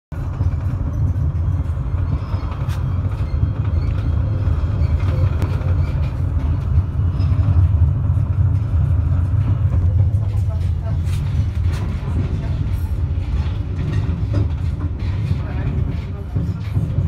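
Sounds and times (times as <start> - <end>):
tram wheels rumbling on rails: 0.1 - 17.0.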